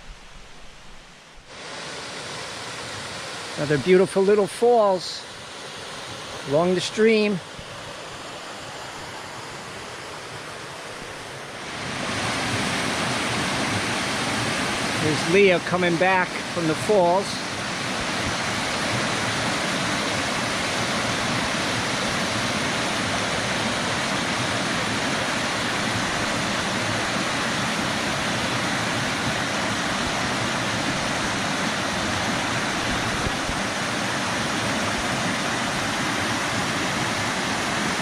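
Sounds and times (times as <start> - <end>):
small waterfall rushing: 0.0 - 38.0.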